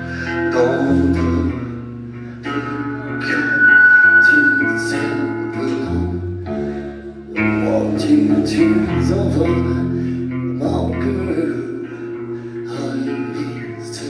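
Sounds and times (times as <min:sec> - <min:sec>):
bass guitar: 0:00.0 - 0:14.0
guitar: 0:00.0 - 0:14.0
person singing: 0:00.0 - 0:14.0.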